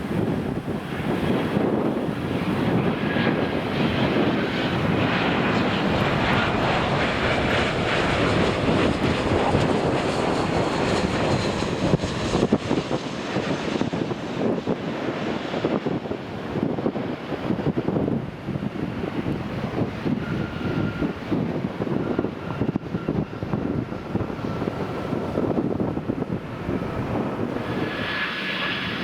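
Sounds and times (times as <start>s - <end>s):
jet airliner engine passing: 0.0s - 29.0s
wind buffeting microphone: 0.0s - 29.0s.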